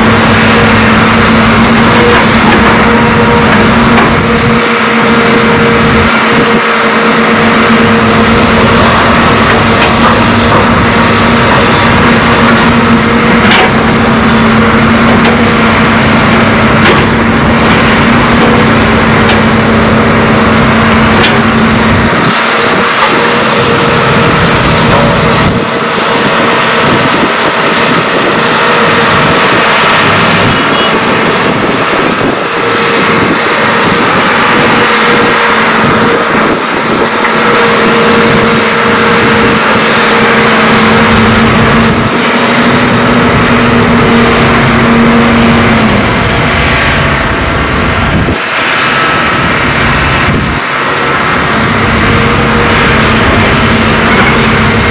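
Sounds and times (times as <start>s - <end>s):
excavator diesel engines: 0.0s - 54.9s.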